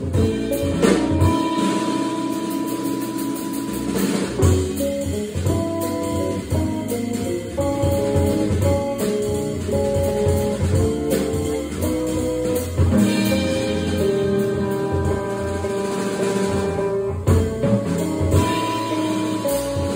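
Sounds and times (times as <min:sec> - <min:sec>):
drum kit: 0:00.0 - 0:19.9.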